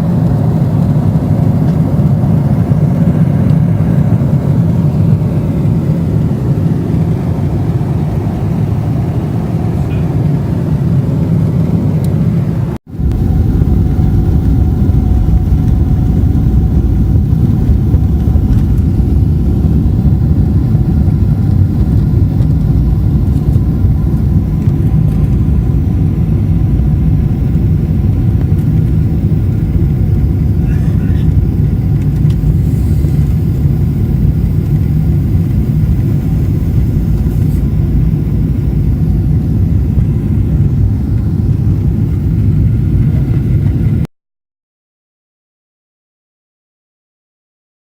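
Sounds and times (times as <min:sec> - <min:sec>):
airliner cabin engine rumble: 0:00.0 - 0:44.1.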